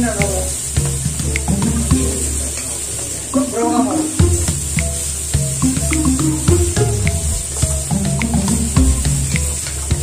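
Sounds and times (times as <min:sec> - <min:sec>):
music with steady beat and bass: 0:00.0 - 0:10.0.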